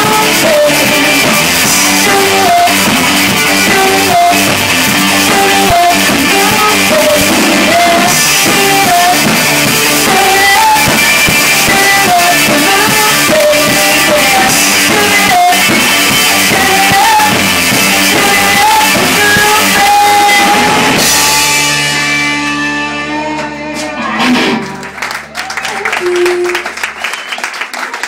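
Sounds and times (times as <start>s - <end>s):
person singing: 0.0s - 21.4s, 22.6s - 24.8s, 25.6s - 26.8s
drum kit: 0.0s - 28.0s
electric guitar: 0.0s - 28.0s.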